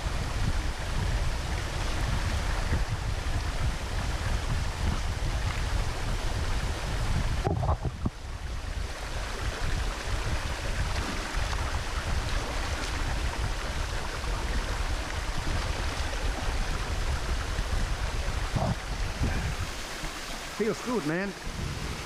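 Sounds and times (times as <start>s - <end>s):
small waterfall splashing over rocks: 0.0s - 22.0s.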